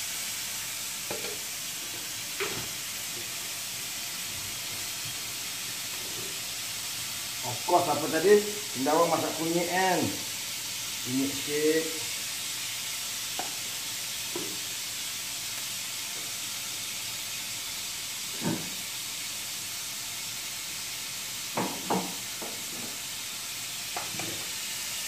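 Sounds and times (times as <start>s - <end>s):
chicken sizzling in a wok: 0.0s - 25.0s.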